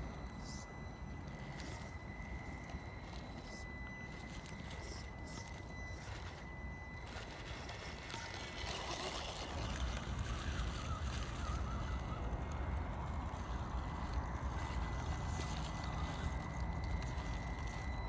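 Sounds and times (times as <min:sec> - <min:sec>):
electric motor whine: 0:00.0 - 0:18.0
wheels rustling over rough ground: 0:00.0 - 0:18.0.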